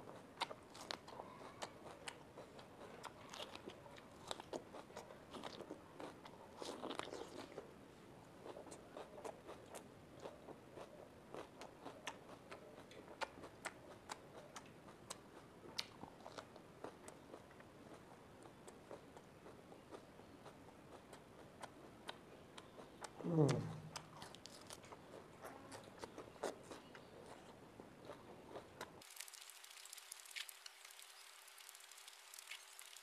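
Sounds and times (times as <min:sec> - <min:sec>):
crunchy chewing of pepper: 0:00.0 - 0:33.0.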